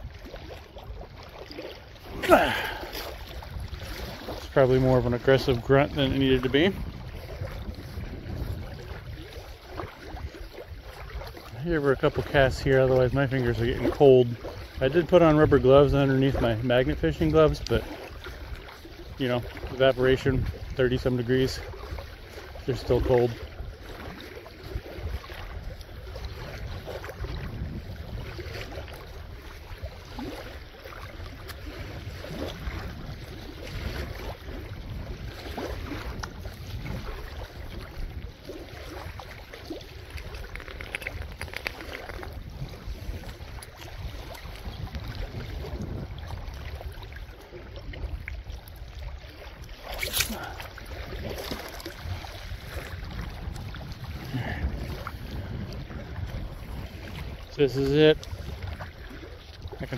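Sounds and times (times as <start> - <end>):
water noise: 0.0 - 59.9
wind buffeting microphone: 0.0 - 59.9.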